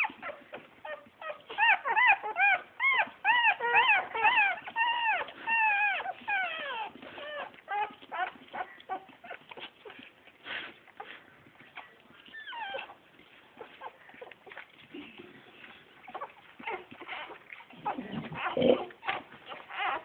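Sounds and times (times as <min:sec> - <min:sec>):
puppies whimpering and squealing: 0:00.0 - 0:20.0.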